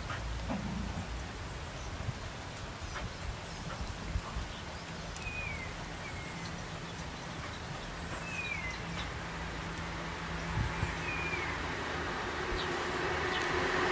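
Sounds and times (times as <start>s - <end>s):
outdoor background hum: 0.0s - 13.9s.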